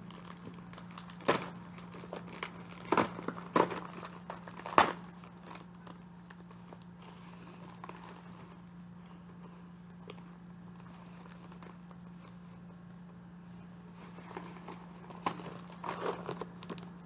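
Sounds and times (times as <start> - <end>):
packaging crinkling and tearing: 0.0 - 8.7, 10.0 - 12.4, 14.0 - 17.0
packaging rustling: 0.0 - 8.7, 10.0 - 12.4, 13.9 - 17.0.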